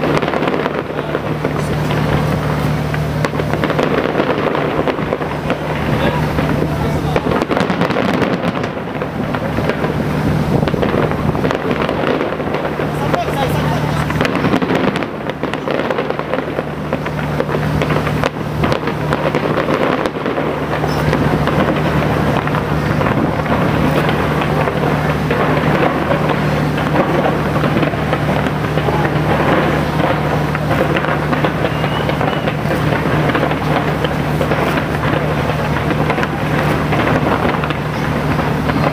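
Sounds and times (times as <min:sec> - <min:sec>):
fireworks bangs: 0:00.0 - 0:38.9
fireworks crackling: 0:00.0 - 0:38.9
low hum: 0:00.0 - 0:38.9.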